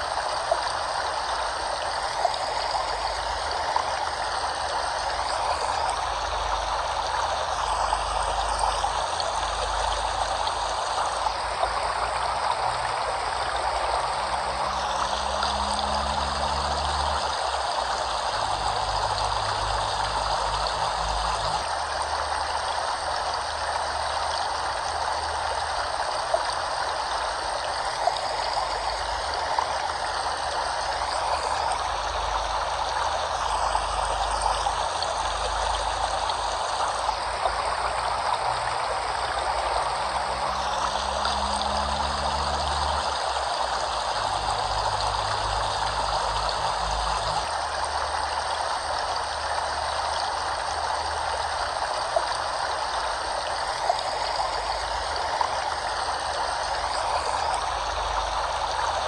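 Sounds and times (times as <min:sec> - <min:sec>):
flowing water rushing: 0:00.0 - 0:59.0.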